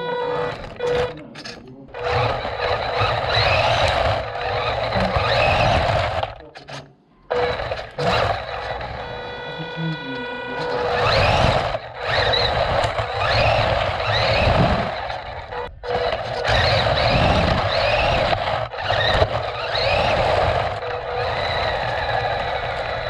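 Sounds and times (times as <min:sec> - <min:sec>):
tyres rumbling on pavement: 0:00.0 - 0:06.6, 0:07.3 - 0:23.0
electric motor and gears whining: 0:00.0 - 0:23.0.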